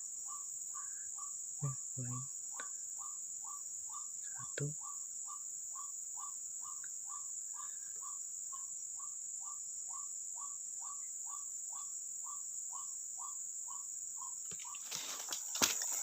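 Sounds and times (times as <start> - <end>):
crickets chirring: 0.0 - 16.0
short repeated insect call: 0.0 - 16.0.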